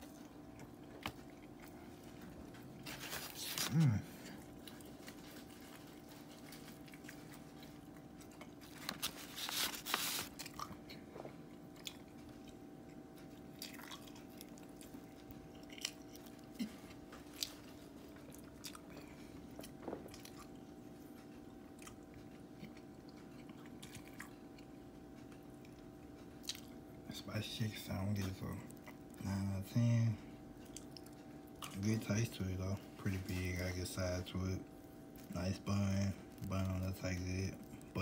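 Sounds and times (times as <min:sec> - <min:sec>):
person chewing crispy food: 0:00.0 - 0:29.8, 0:30.4 - 0:32.4, 0:33.0 - 0:38.0
faint steady hum: 0:00.0 - 0:38.0.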